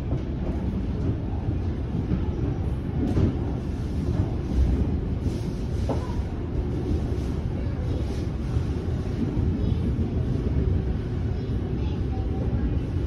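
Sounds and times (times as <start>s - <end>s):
train clatter: 0.0s - 13.0s
train wheels on rails: 0.0s - 13.0s.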